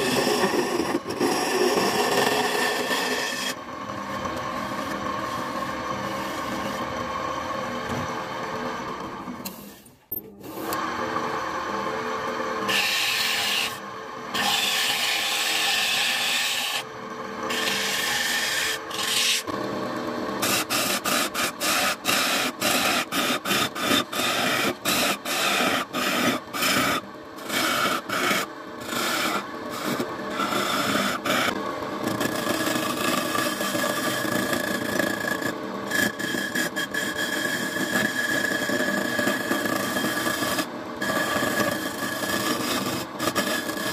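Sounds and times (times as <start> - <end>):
wood lathe running: 0.0 - 9.5, 10.4 - 43.9
tool scraping spinning wood: 0.0 - 10.8, 12.6 - 43.9.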